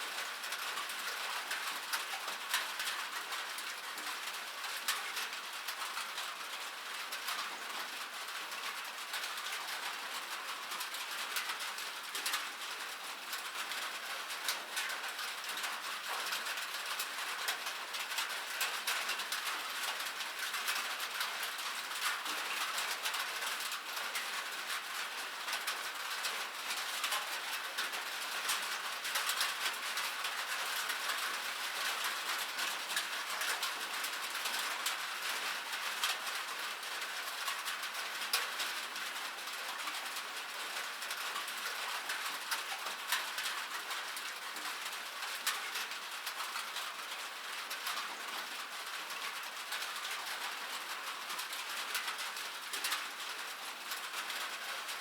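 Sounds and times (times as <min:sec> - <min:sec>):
rain on metal: 0:00.0 - 0:55.0.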